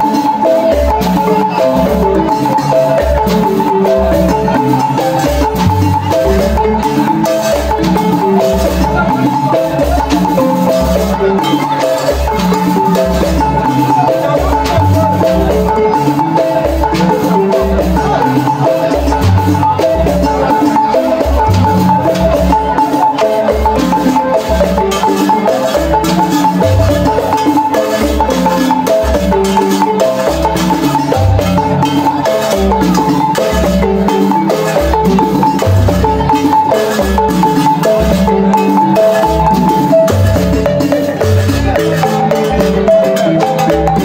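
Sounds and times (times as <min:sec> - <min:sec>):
balafon melody played with mallets: 0:00.0 - 0:44.0.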